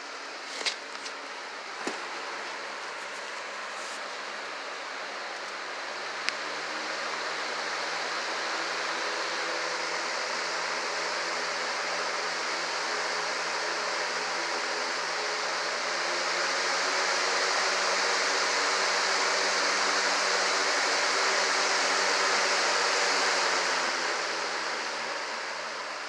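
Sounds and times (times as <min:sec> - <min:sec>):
box fan rushing air: 0:00.0 - 0:26.0.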